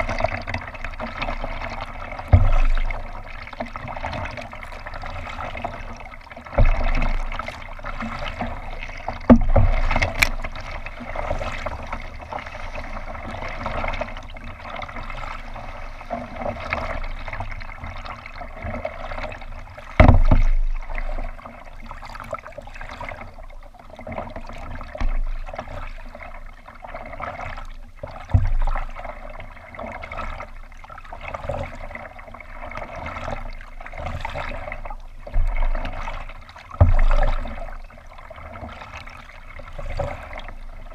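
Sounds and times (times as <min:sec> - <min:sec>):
water trickling along hull: 0:00.0 - 0:40.9.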